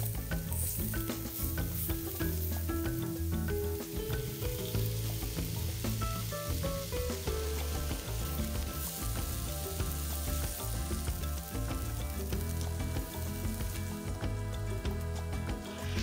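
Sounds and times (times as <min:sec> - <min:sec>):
soft background music: 0:00.0 - 0:16.0
vegetables sizzling in a pan: 0:00.0 - 0:16.0.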